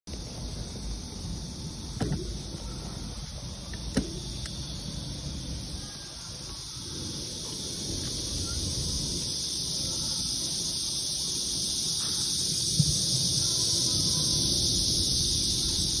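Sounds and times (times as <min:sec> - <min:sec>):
high hiss: 0:00.1 - 0:16.0.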